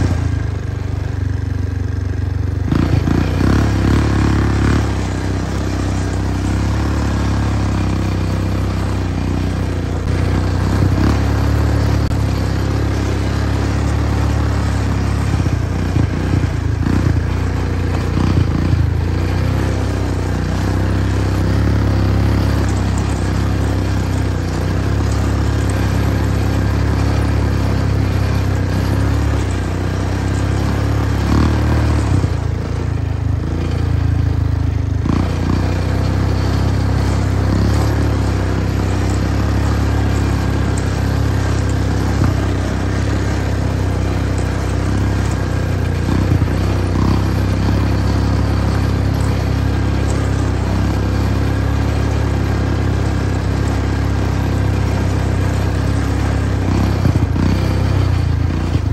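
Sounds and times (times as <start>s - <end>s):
engine droning: 0.0s - 58.9s.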